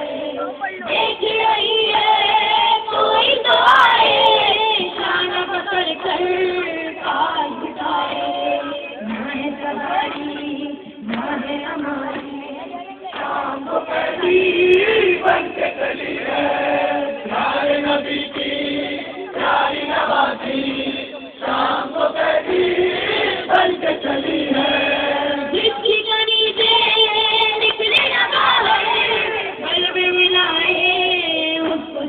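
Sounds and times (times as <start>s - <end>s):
voices chanting in chorus: 0.0s - 25.9s, 26.5s - 32.0s.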